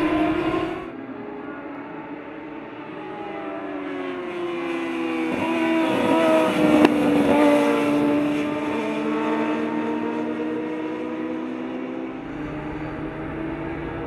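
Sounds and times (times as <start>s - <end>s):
racing motorcycles passing at speed: 0.0s - 14.0s.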